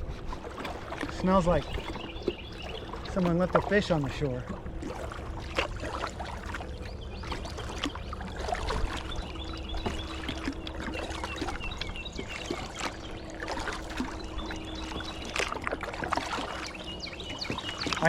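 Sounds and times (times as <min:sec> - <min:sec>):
water trickling and splashing: 0:00.0 - 0:18.0
water dripping: 0:00.6 - 0:18.0.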